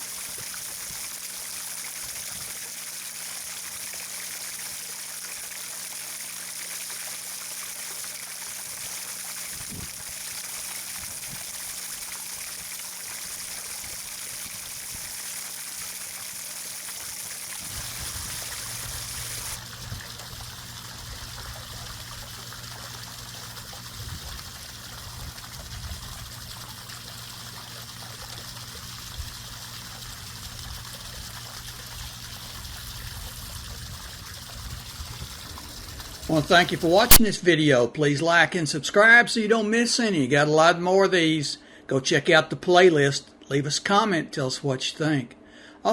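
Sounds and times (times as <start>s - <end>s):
water trickling: 0.0s - 37.2s.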